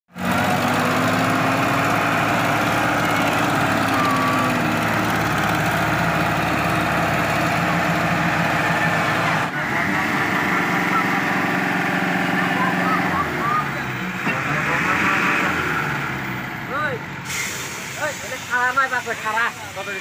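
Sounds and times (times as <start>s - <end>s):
tractor diesel engine under load: 0.1s - 20.0s.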